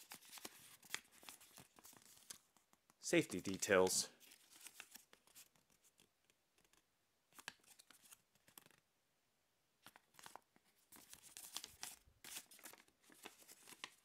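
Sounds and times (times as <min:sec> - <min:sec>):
paper leaflet rustling: 0:00.0 - 0:02.4, 0:03.2 - 0:08.8, 0:09.8 - 0:14.0.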